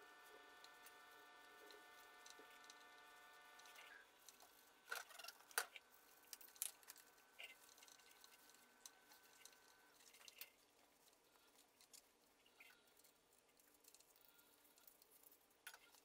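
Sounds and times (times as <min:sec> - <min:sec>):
small clicks and squishes: 0:00.0 - 0:16.0.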